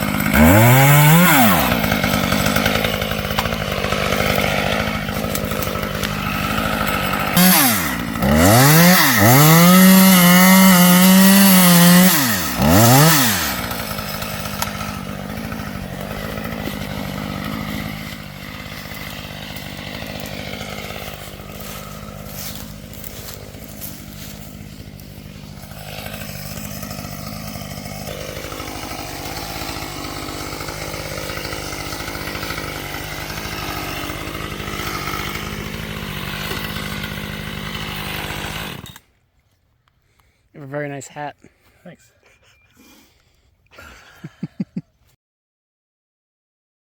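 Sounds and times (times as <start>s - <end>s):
chainsaw revving: 0.0s - 39.2s.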